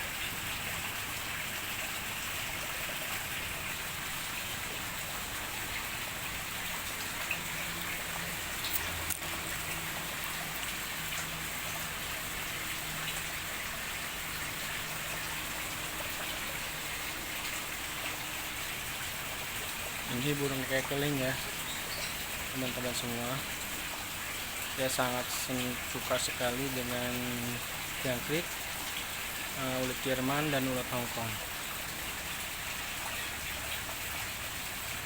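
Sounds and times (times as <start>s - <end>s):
falling water pattering: 0.0s - 35.0s.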